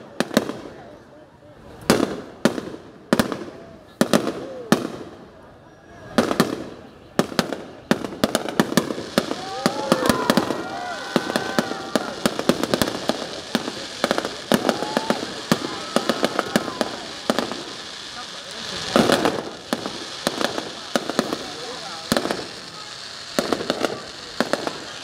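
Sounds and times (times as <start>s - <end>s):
fireworks cracking and banging: 0.0s - 1.0s, 1.6s - 5.4s, 6.0s - 25.0s
fireworks crackle: 0.0s - 5.4s, 6.0s - 25.0s.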